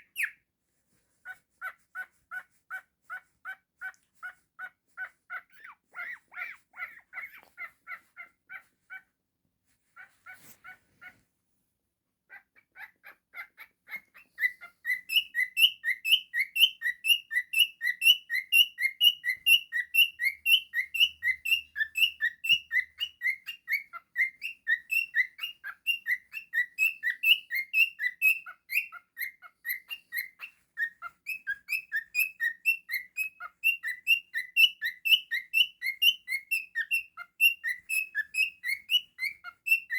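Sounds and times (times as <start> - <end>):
cockatiel chirping: 0.0 - 0.4, 1.2 - 9.1, 10.0 - 11.2, 12.3 - 39.9.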